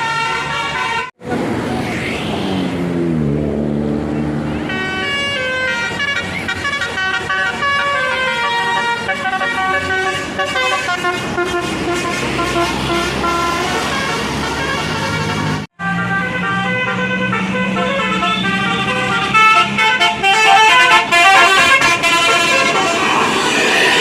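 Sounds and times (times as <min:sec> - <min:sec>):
bus musical air horn: 0:00.0 - 0:01.2, 0:04.6 - 0:24.0.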